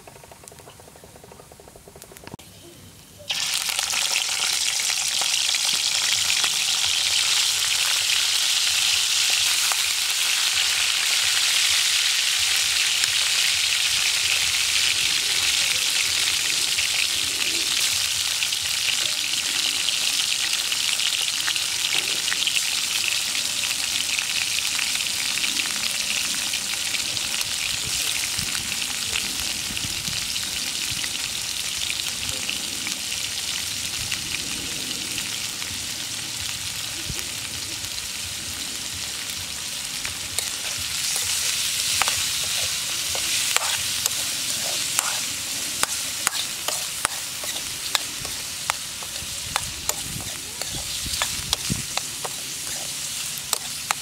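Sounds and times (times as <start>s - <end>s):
eel frying in hot oil: 3.3s - 54.0s.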